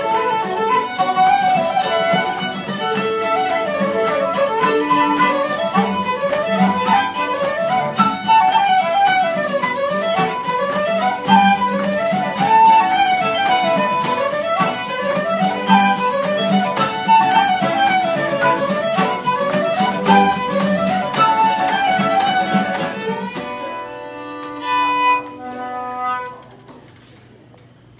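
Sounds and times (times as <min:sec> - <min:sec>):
fiddle playing fast dance tune: 0:00.0 - 0:25.5
folk session music: 0:00.0 - 0:27.4.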